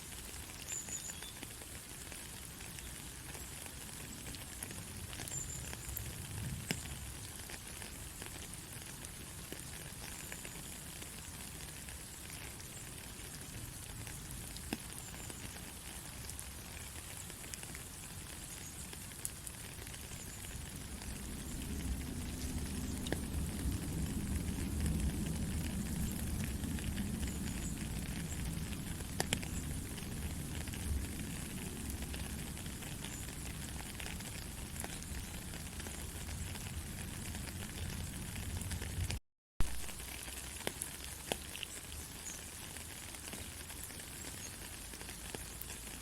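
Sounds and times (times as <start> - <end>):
soft rain hiss: 0.0 - 46.0.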